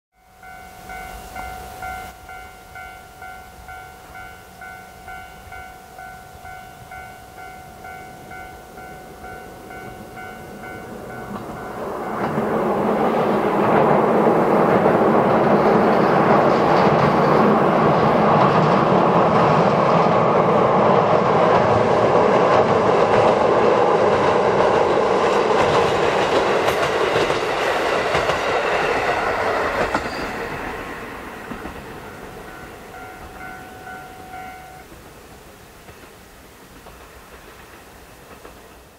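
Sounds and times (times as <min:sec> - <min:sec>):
train rumbling over steel bridge: 0:00.2 - 0:38.9.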